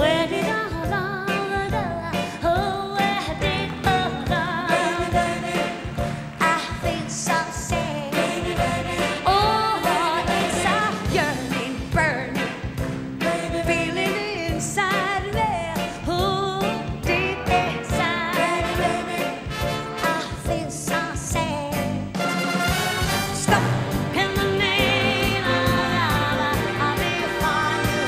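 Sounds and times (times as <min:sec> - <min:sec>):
woman singing with vibrato: 0:00.0 - 0:12.6, 0:13.2 - 0:22.1, 0:23.2 - 0:28.0
drums keeping steady beat: 0:00.0 - 0:28.0
big band horns: 0:01.3 - 0:28.0.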